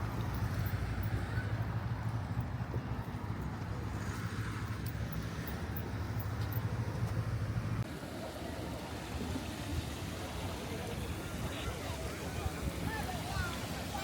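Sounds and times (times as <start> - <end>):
outdoor background: 0.0 - 14.0
road traffic noise: 0.0 - 14.0.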